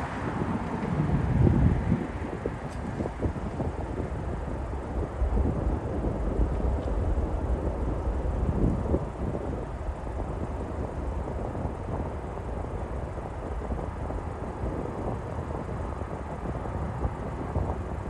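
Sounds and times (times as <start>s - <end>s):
distant jet engines rumbling: 0.0s - 18.0s
wind buffeting microphone: 0.0s - 18.0s.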